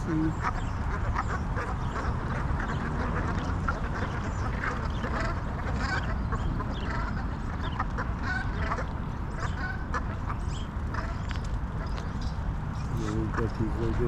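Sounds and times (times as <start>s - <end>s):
ducks quacking: 0.0s - 12.2s, 12.9s - 14.0s.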